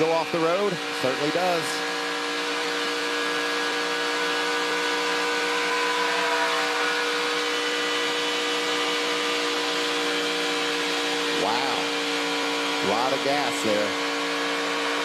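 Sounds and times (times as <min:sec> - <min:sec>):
race truck engine at full throttle: 0:00.0 - 0:15.0.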